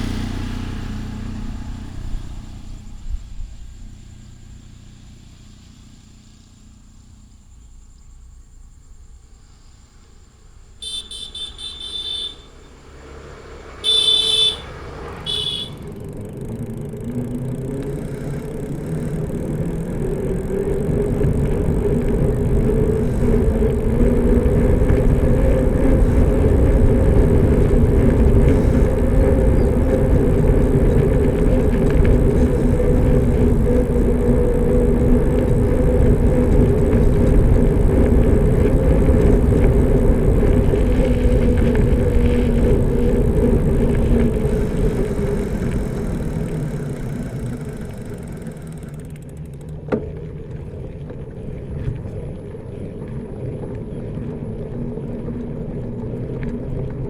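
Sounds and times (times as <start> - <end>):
road ambience: 0.0 - 57.0
vehicle engine humming and rumbling: 0.0 - 57.0.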